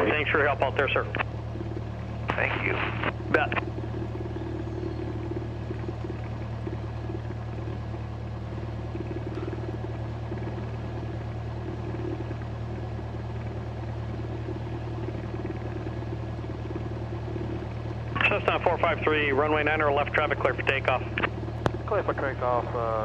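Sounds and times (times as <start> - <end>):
piston engine idling: 0.0 - 23.0.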